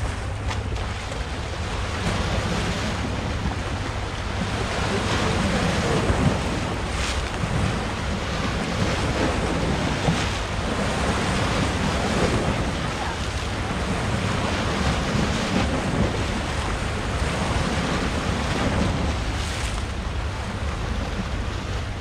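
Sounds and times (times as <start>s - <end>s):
surf breaking on rocky shore: 0.0s - 22.0s
wind buffeting microphone: 0.0s - 22.0s.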